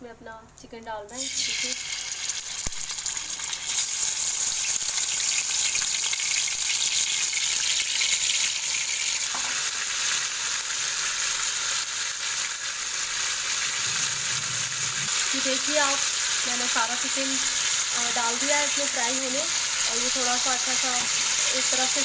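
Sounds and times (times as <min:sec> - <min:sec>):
chicken sizzling in hot oil: 0:01.1 - 0:22.0.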